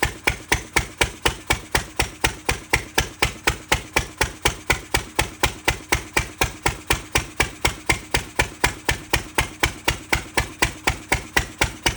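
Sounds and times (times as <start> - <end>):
stationary engine exhaust knocks: 0.0 - 11.9.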